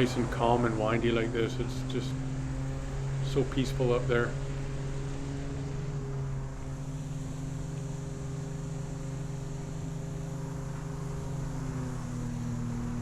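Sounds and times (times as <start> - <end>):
jet boat motor running: 0.0 - 13.0.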